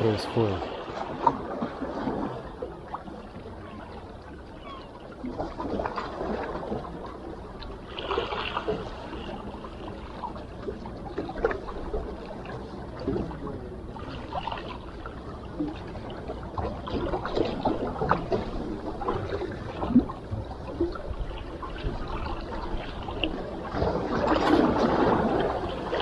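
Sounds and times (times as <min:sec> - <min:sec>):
sea water lapping at shore: 0:00.0 - 0:26.0.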